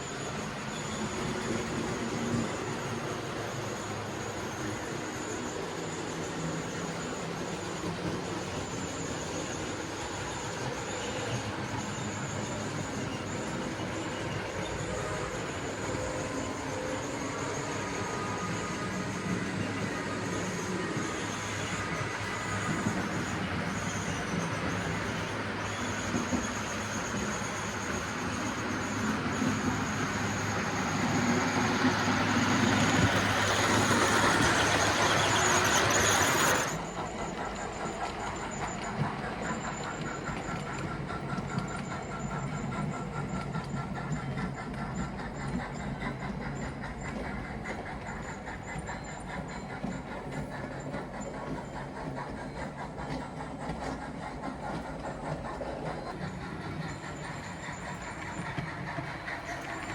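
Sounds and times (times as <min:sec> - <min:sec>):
high squeak from wheels: 0:00.0 - 0:59.9
model train rolling rumble: 0:00.0 - 0:59.9.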